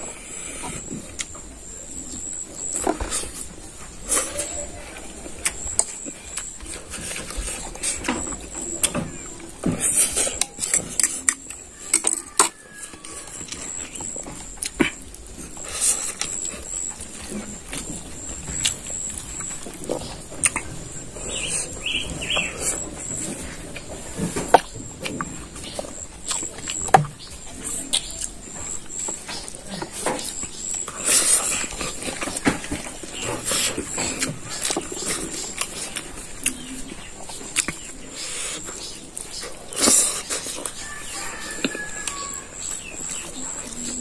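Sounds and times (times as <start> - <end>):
person chewing noodles: 0.0 - 44.0
man eating with lip smacks: 0.1 - 44.0
bird chirps: 0.3 - 44.0.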